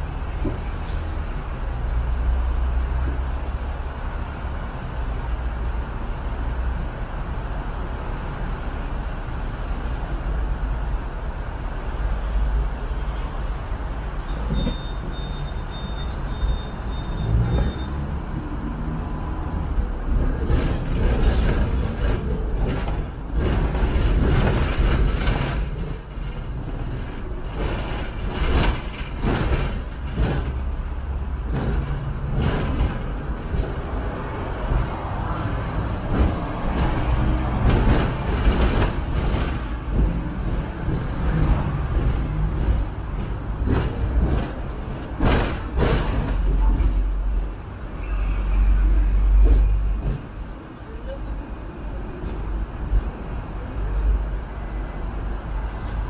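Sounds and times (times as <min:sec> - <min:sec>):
tram clattering and rattling: 0:00.0 - 0:56.0
tram rumbling: 0:00.0 - 0:56.0.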